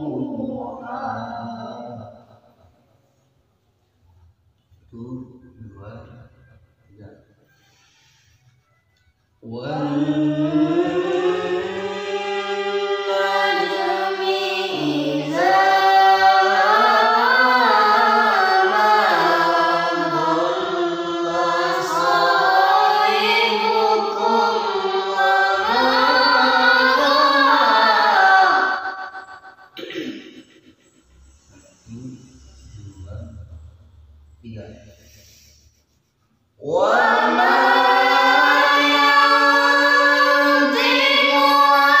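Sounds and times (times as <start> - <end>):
boys chanting recitation: 0.0 - 2.4, 9.4 - 35.4, 36.6 - 42.0.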